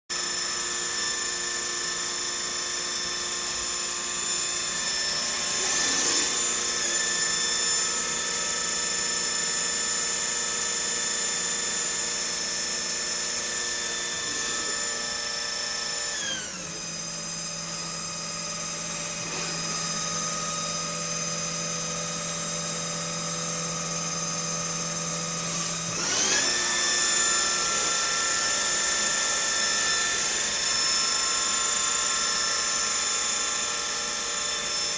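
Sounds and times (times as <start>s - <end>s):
lathe high whine: 0.1s - 34.9s.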